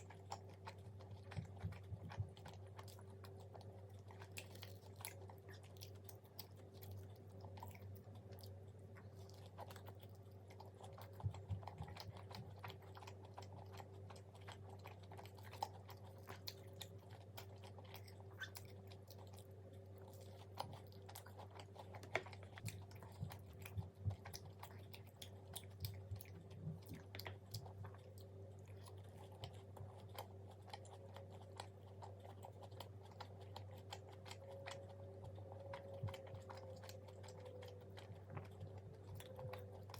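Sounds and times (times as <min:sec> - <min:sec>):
chewing crunchy fried food: 0:00.0 - 0:39.9
steady low hum: 0:00.0 - 0:39.9.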